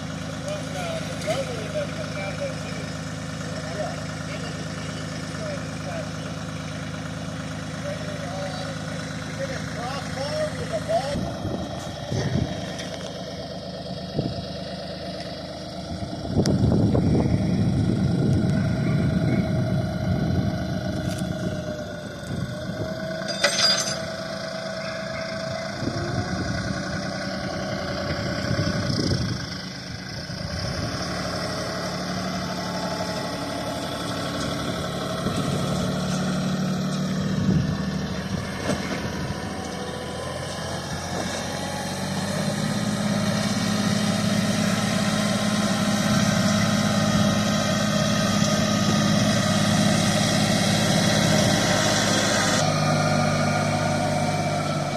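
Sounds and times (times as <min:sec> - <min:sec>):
tractor engine revving: 0:00.0 - 0:54.9.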